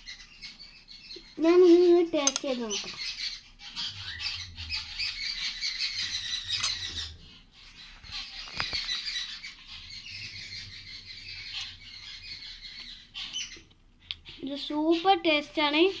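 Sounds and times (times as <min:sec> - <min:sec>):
small birds chirping and squawking: 0:00.0 - 0:16.0.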